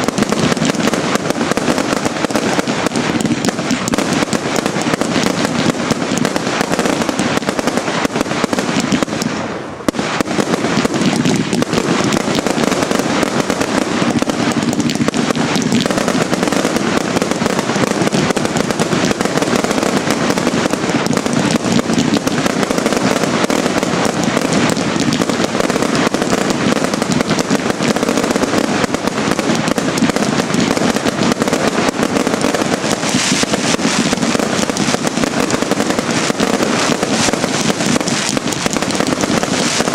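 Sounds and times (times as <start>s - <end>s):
fireworks barrage crackling: 0.0s - 39.9s.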